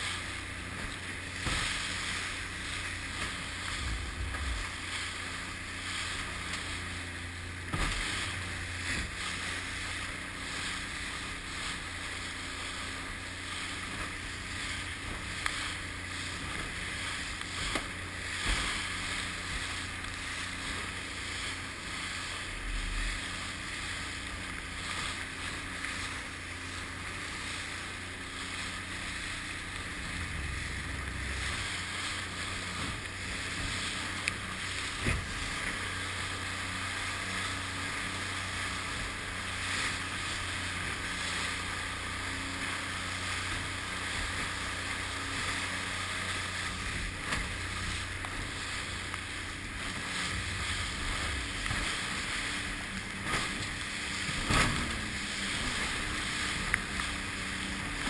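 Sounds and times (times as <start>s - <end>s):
boat hull slapping on wave: 0.0s - 58.0s
outboard engine drone: 0.0s - 58.0s
rushing water and spray: 0.0s - 58.0s.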